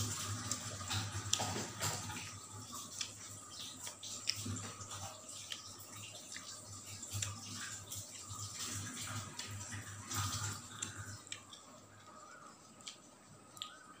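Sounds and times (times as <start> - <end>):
wet chewing and lip-smacking: 0.1 - 14.0.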